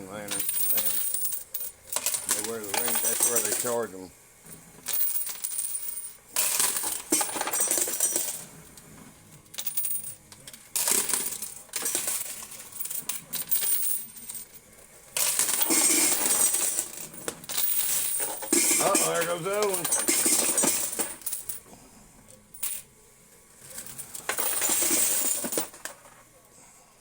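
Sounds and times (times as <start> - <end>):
coins clinking and clattering: 0.3 - 3.8, 4.8 - 8.5, 9.4 - 21.6, 23.6 - 26.2.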